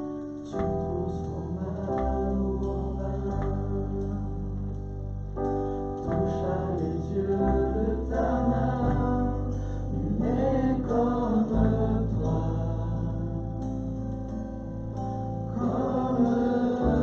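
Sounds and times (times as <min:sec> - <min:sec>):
choir singing with sustained chords: 0:00.8 - 0:04.8, 0:06.0 - 0:17.0.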